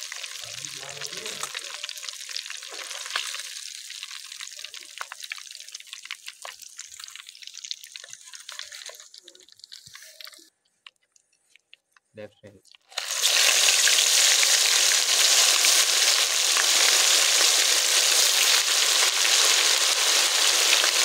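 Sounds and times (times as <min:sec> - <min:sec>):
fish sizzling in hot oil: 0:00.0 - 0:10.5, 0:12.8 - 0:21.0.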